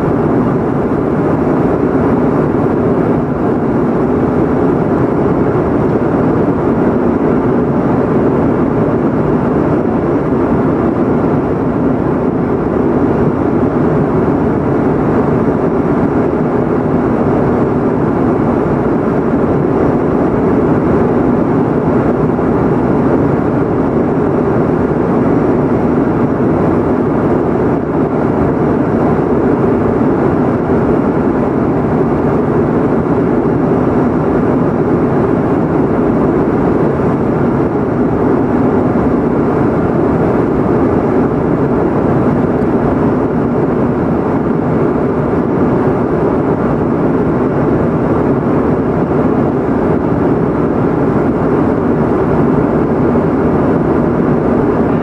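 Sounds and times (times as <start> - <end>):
airliner cabin noise: 0.0 - 55.0.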